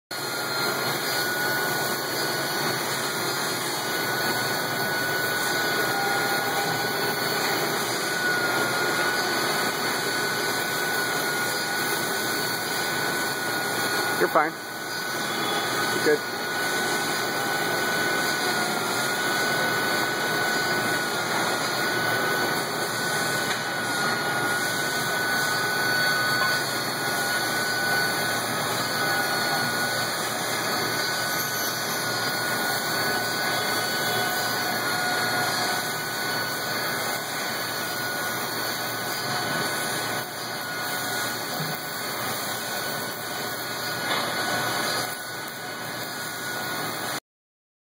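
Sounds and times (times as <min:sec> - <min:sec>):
pneumatic drill whirring: 0:00.2 - 0:47.2.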